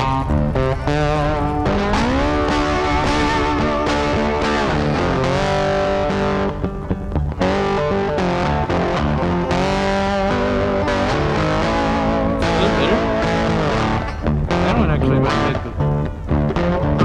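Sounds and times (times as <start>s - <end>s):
distorted electric guitar music: 0.0s - 17.0s.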